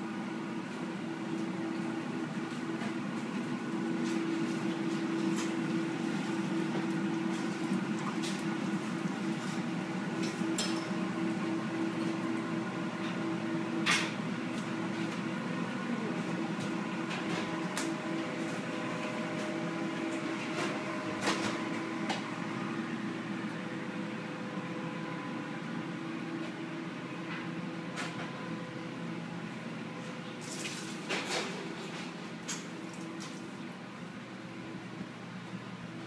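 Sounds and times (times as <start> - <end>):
kitchen equipment humming: 0.0 - 36.0.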